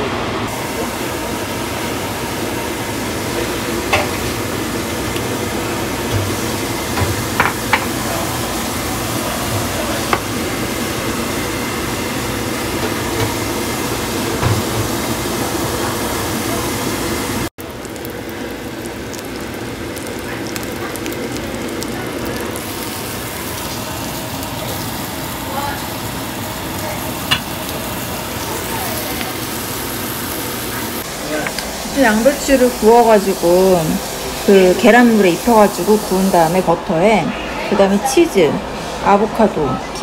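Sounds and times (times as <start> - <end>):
food sizzling in a pan: 0.5 - 36.8.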